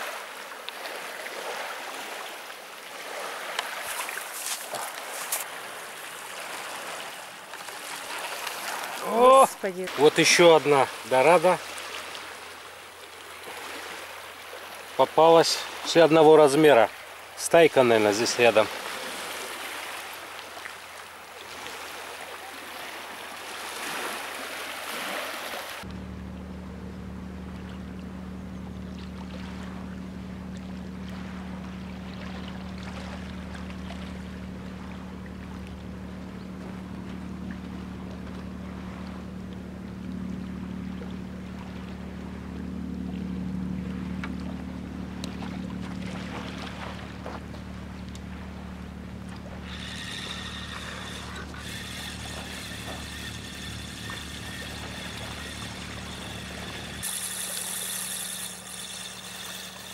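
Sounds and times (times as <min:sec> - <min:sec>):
low engine-like hum: 0:00.0 - 0:59.9.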